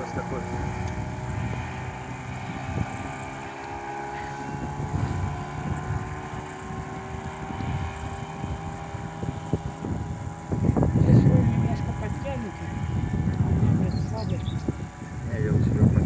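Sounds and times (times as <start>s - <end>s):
outboard motor running: 0.0s - 16.0s
wind noise on microphone: 0.0s - 16.0s.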